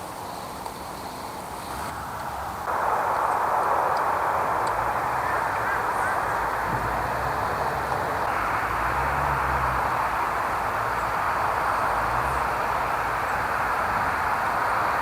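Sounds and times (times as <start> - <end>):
steady rushing noise: 1.5 - 15.0
faint low rumbles: 1.7 - 15.0.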